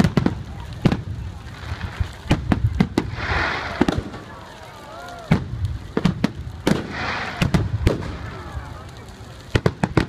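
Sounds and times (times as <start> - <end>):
fireworks banging: 0.0 - 10.0
fireworks crackling burst: 0.0 - 10.0.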